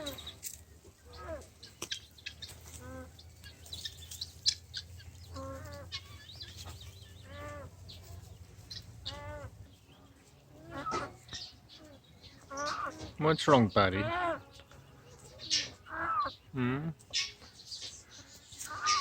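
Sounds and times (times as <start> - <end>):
farm fowl calling: 0.0 - 19.0.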